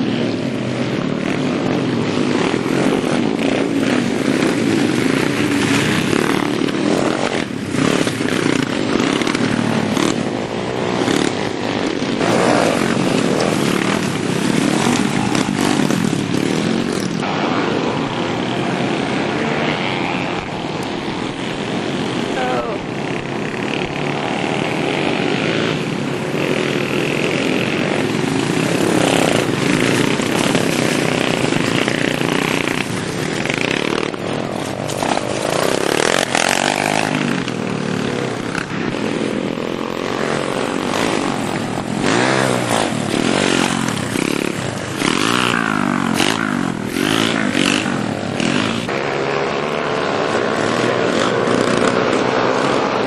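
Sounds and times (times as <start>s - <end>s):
pit bike engines revving: 0.0s - 53.0s.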